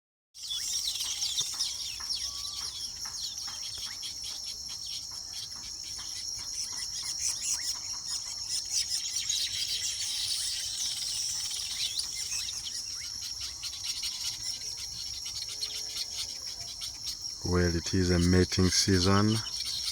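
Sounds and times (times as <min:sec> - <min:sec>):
birds chirping and buzzy calls: 0:00.4 - 0:19.9.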